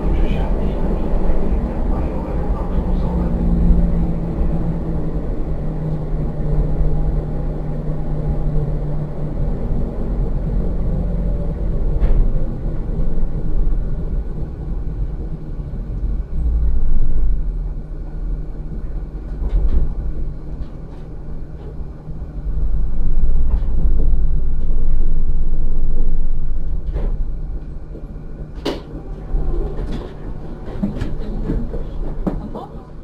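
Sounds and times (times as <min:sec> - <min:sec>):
constant low hum: 0:00.0 - 0:33.0
tram wheels rumbling on rails: 0:00.0 - 0:33.0.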